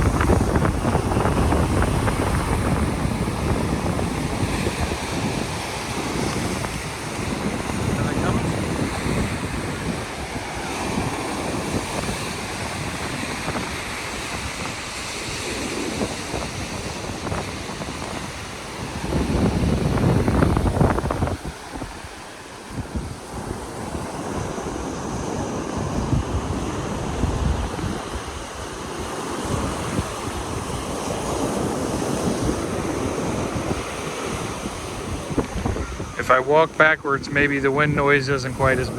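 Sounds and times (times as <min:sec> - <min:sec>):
ocean surf: 0:00.0 - 0:38.9
wind buffeting microphone: 0:00.0 - 0:38.9.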